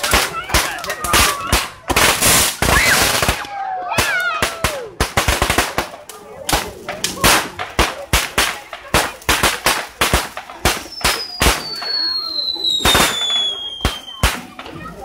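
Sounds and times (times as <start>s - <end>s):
fireworks cracking and banging: 0.0s - 15.0s.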